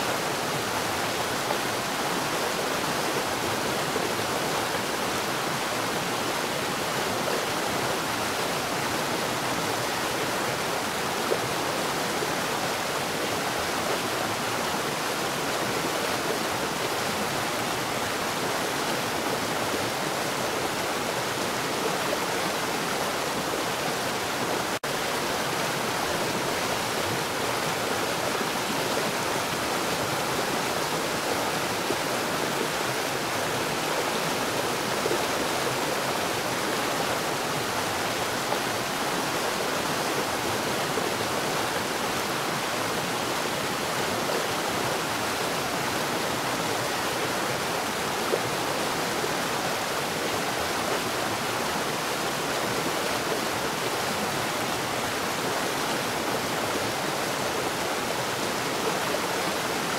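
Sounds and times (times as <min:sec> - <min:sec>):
rush of falling water: 0:00.0 - 0:59.9.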